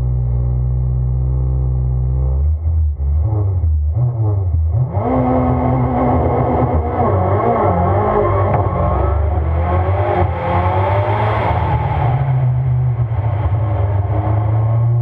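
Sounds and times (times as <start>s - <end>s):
race car engine revving: 0.0s - 15.0s
road and wind noise: 2.6s - 15.0s.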